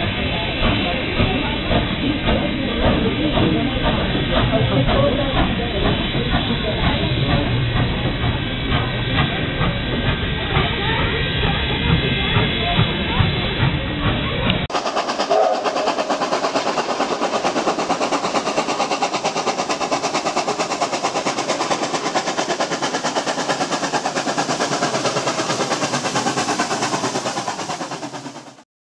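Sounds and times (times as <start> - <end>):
steam locomotive chuffing fast: 0.0 - 28.7.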